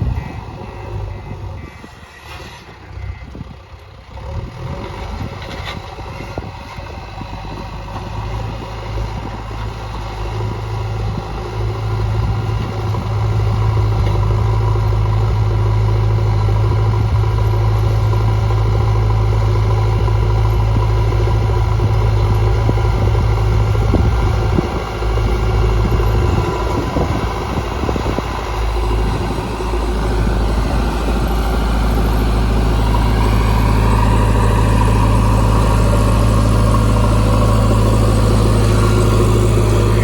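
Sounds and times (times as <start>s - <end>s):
backhoe diesel engine running: 0.0s - 40.0s.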